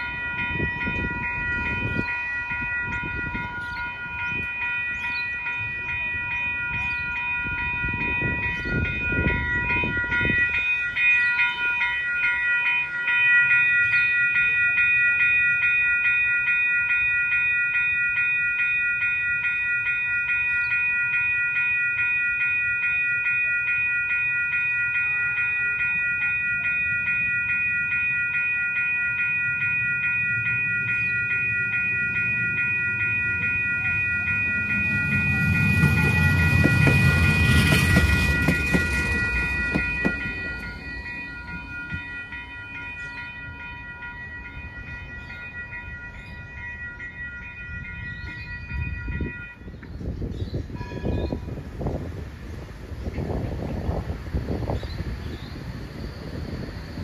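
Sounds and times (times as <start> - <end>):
level crossing bells ringing: 0.0 - 57.0
tram passing: 0.0 - 57.0.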